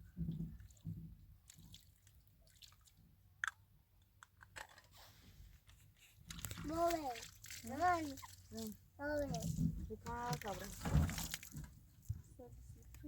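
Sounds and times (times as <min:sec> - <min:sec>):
soft wet sounds: 0:00.1 - 0:03.7, 0:04.9 - 0:13.0.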